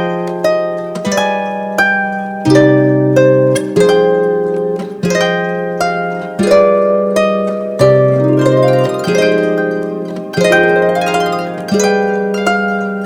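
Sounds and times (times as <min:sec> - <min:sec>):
plucked harp-like chords: 0:00.0 - 0:13.0.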